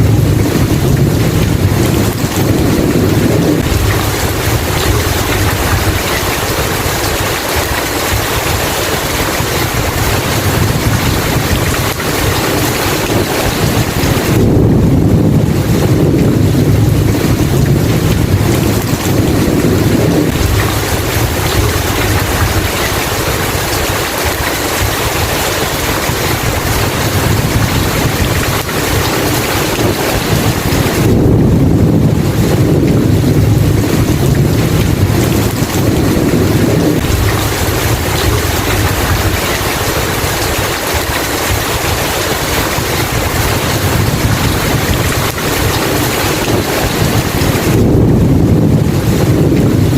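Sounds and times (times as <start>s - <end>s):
heavy rain: 0.0s - 49.9s
rolling thunder: 0.0s - 49.9s.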